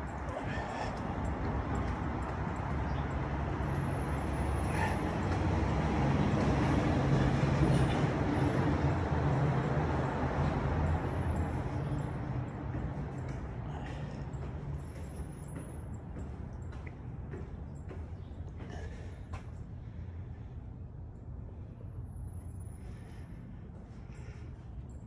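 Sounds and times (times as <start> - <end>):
large vehicle engine rumble: 0.0 - 25.0.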